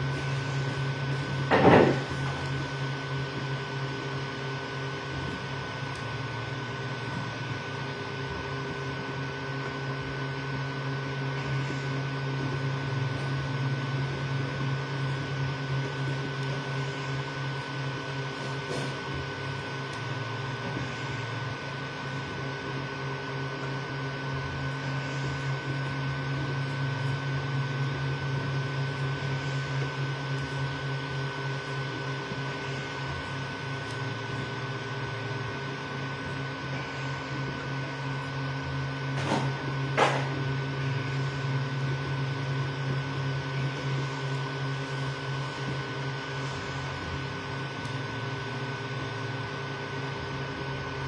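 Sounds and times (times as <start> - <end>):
high fan whine and hiss: 0.0 - 51.0
stepper motors humming and buzzing: 0.0 - 51.0.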